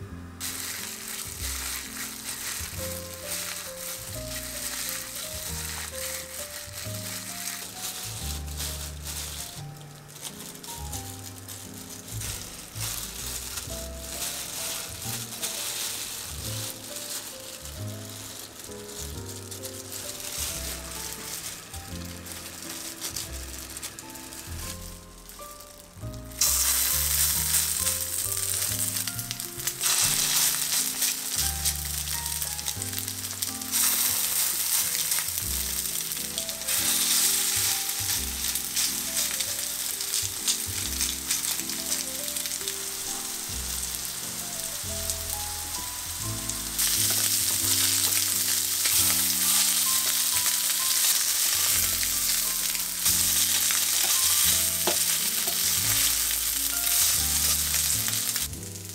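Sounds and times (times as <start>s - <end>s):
food sizzling in frying pan: 0.0s - 58.9s
soft background music: 0.0s - 58.9s.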